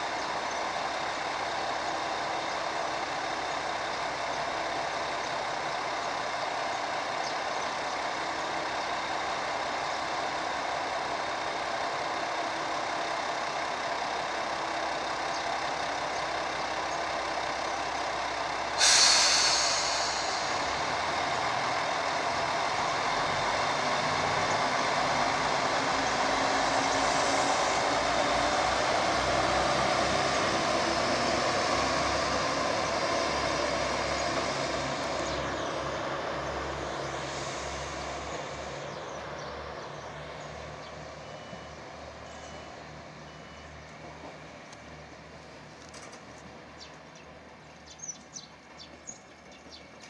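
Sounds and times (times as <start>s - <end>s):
train running noise: 0.0s - 50.0s.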